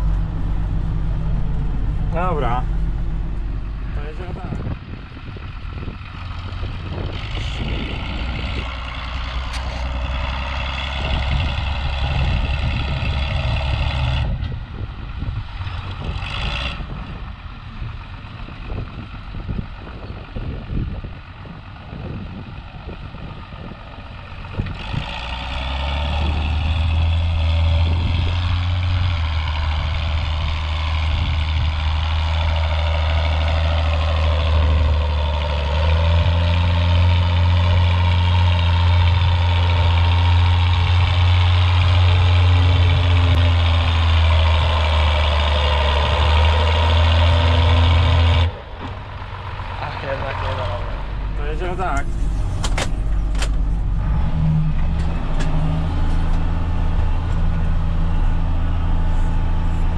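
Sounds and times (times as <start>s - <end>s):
engine knocks and rattles: 0.0s - 59.9s
tractor diesel engine running: 0.0s - 59.9s.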